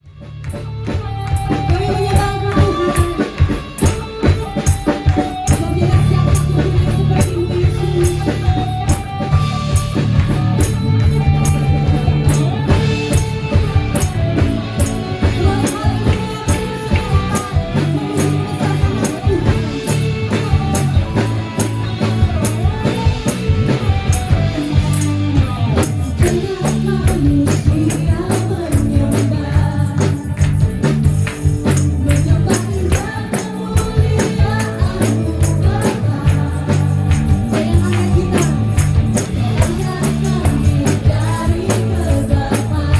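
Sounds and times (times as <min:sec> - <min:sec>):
upbeat worship song with band: 0:00.1 - 0:42.9
tambourine jingles: 0:00.4 - 0:42.9.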